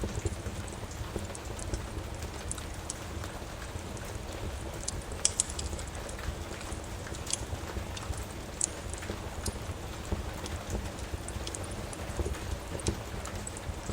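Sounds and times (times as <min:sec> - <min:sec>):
rain rushing: 0:00.0 - 0:13.9
wood fire crackling: 0:00.0 - 0:13.9.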